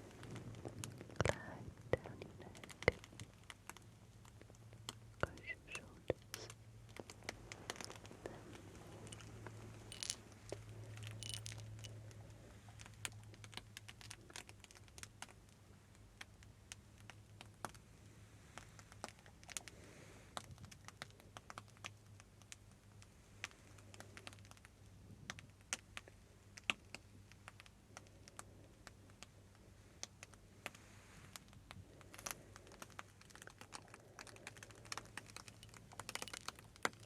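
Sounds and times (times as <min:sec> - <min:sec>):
faint low hum: 0:00.0 - 0:37.0
soft crackling and tapping: 0:00.0 - 0:37.0.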